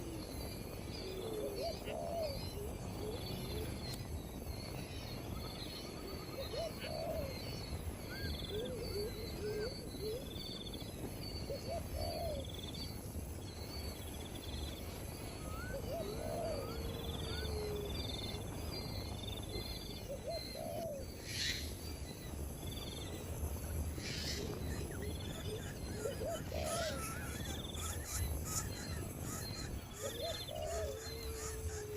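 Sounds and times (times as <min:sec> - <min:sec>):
birds calling: 0:00.0 - 0:31.9.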